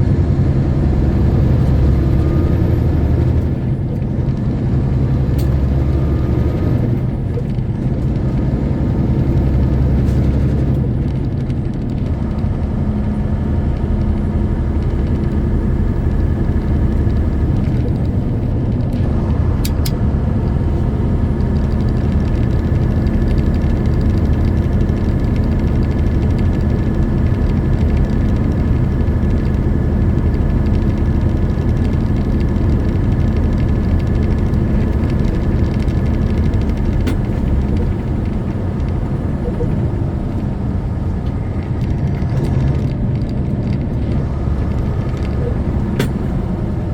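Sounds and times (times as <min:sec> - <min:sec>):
truck engine rumble: 0:00.0 - 0:46.9.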